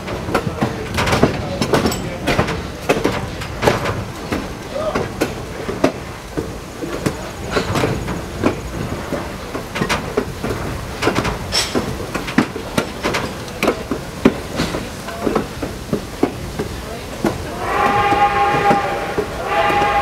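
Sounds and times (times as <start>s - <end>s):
clanks and rattles from wheels: 0.0s - 20.0s
railroad car rumbling on track: 0.0s - 20.0s.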